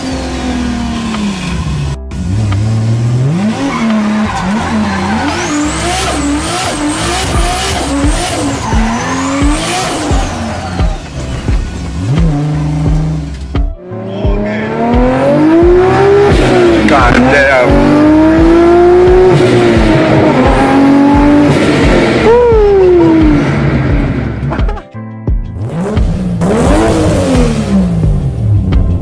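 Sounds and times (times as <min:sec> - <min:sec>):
car engine pulling through revs: 0:00.0 - 0:24.6, 0:25.6 - 0:28.8
car engine revving: 0:00.0 - 0:24.8, 0:25.5 - 0:29.0.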